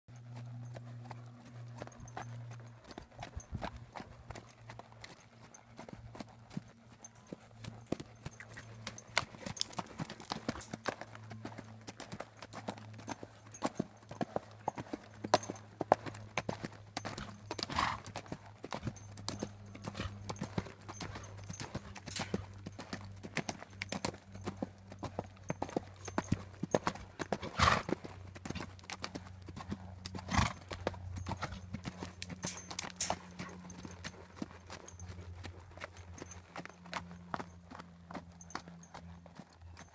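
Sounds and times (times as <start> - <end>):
horse hooves on dirt: 0.1 - 39.9.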